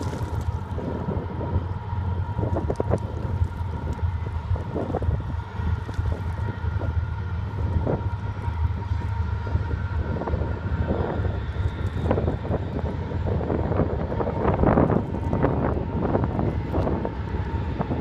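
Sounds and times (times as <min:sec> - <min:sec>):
faint steady whine: 0:00.0 - 0:18.0
wind buffeting microphone: 0:00.0 - 0:18.0.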